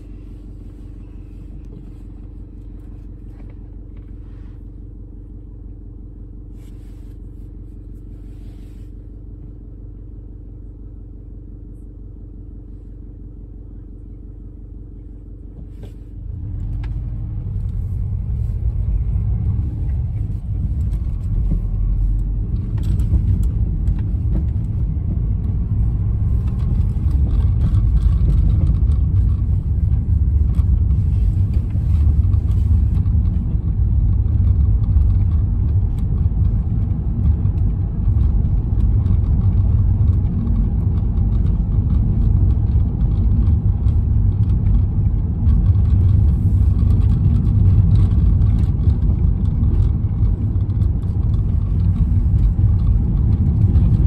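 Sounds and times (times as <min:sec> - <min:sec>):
car engine idling: 0:00.0 - 0:54.0
road rumble: 0:00.0 - 0:54.0.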